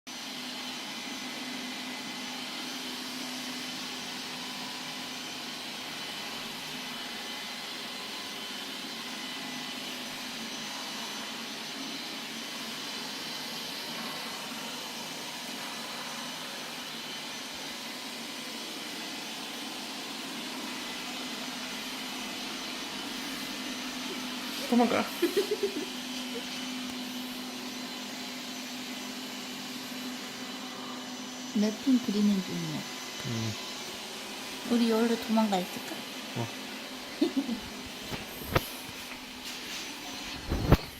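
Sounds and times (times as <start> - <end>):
robot vacuum cleaner whirring: 0.1 - 40.9.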